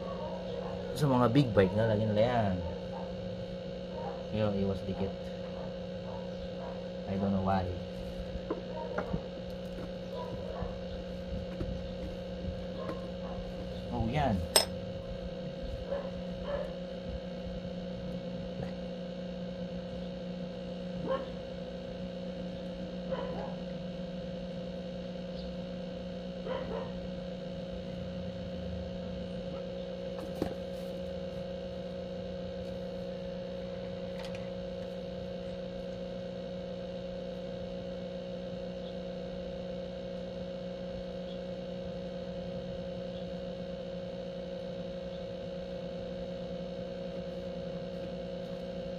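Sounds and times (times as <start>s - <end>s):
electrical hum: 0.0s - 48.9s.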